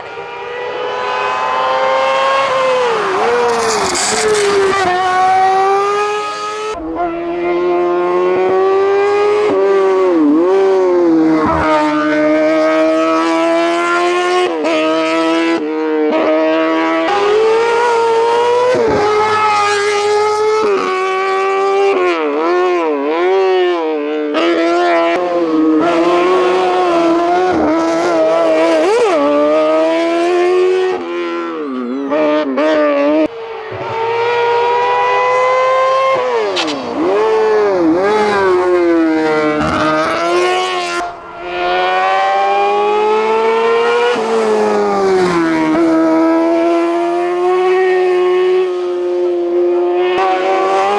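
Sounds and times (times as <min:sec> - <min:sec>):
racing car engine at high revs: 0:00.0 - 0:50.9.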